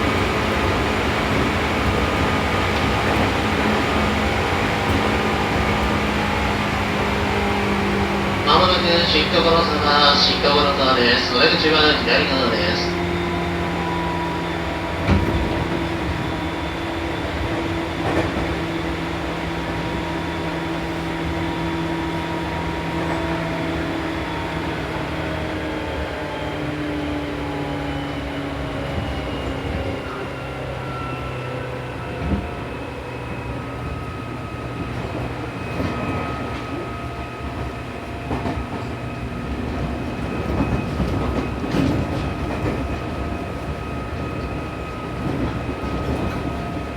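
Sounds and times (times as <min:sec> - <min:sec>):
train wheel-on-rail clatter: 0:00.0 - 0:46.9.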